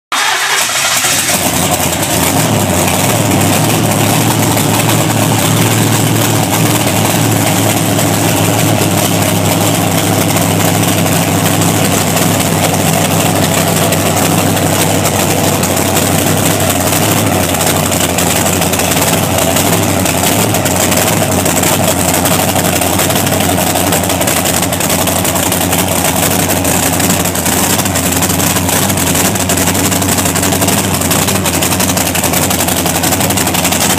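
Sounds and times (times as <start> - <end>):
race engine idling: 0.1 - 33.9.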